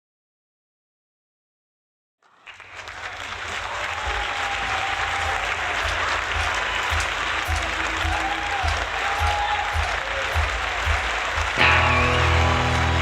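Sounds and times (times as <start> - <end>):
audience applauding: 2.2 - 13.0.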